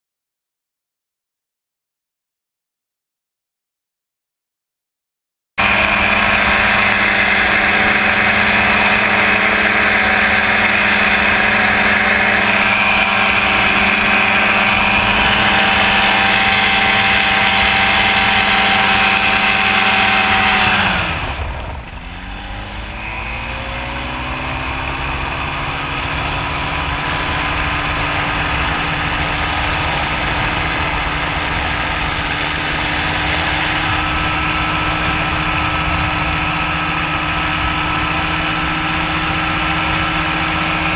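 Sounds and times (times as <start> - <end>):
ultralight engine and propeller: 5.6 - 40.9.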